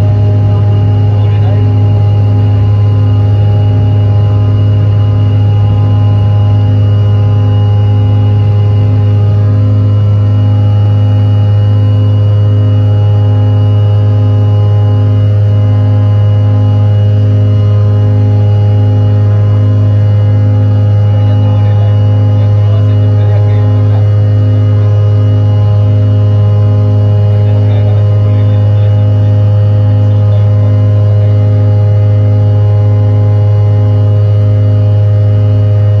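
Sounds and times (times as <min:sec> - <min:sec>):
jet engine cabin drone: 0:00.0 - 0:36.0.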